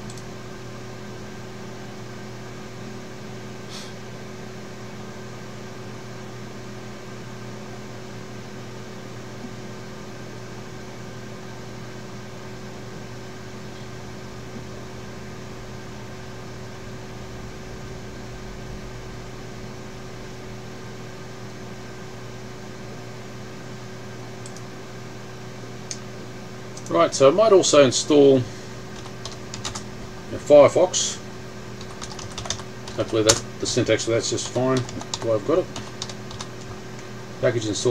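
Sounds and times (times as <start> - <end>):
fan and electrical hum: 0.0 - 37.9.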